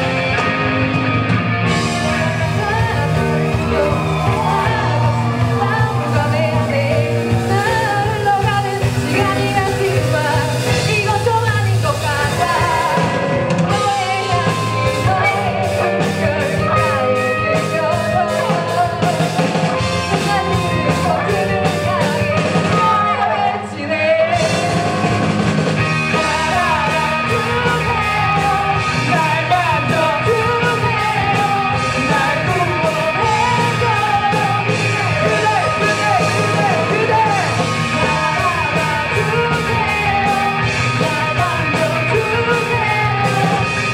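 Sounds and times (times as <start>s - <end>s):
rock band playing live: 0.0s - 43.9s
person singing: 1.6s - 43.9s.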